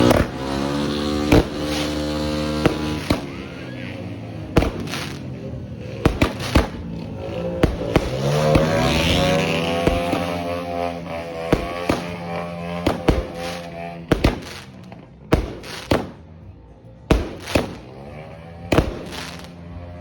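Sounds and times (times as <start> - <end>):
fireworks bangs: 0.0 - 16.4, 17.1 - 19.7.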